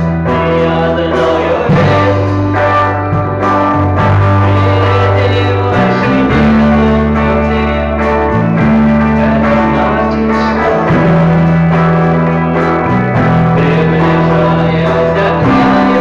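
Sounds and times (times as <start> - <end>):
distorted electric guitar chords: 0.0 - 16.0
rock music: 0.0 - 16.0.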